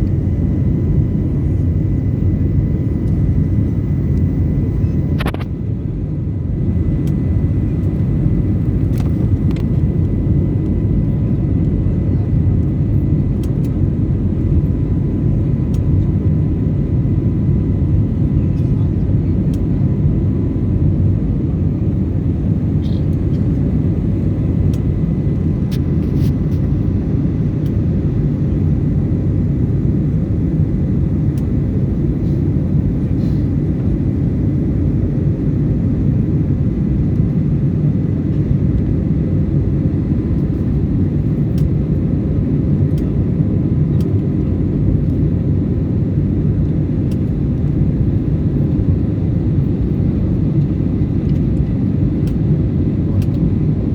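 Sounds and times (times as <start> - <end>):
faint high hum: 0.0 - 53.9
jet engine rumble in cabin: 0.0 - 53.9.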